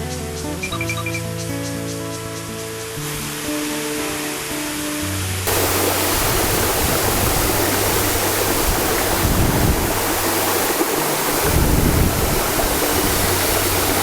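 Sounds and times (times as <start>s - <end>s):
waterfall rushing: 2.3s - 14.0s.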